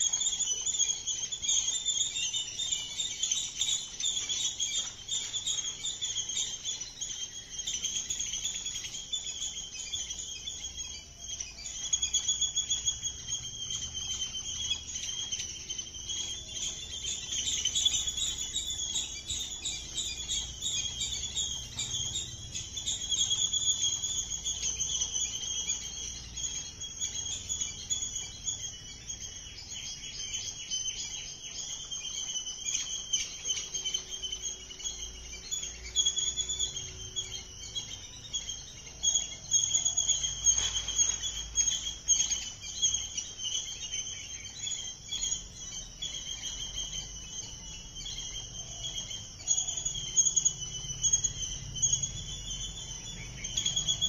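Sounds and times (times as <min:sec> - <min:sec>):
birds chirping: 0:00.0 - 0:54.0
insects chirping: 0:00.0 - 0:54.0.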